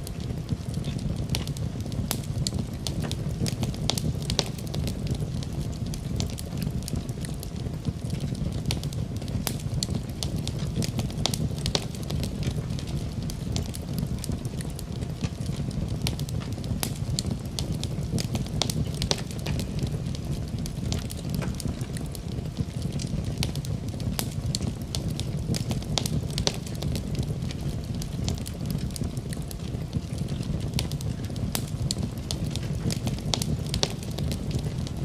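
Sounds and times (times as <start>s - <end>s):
low fire rumble: 0.0s - 35.0s
wood fire crackling and popping: 0.0s - 35.0s.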